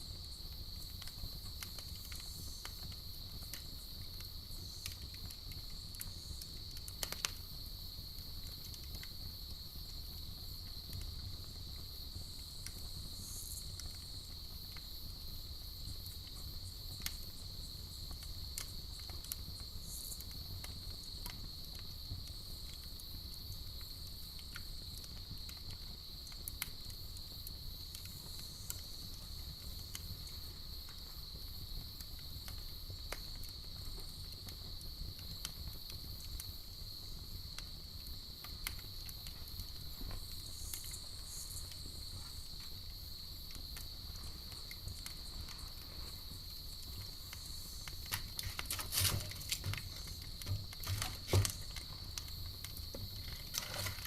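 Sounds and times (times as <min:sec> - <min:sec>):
campfire crackling and popping: 0:00.0 - 0:54.0
night insects trilling: 0:00.0 - 0:54.0.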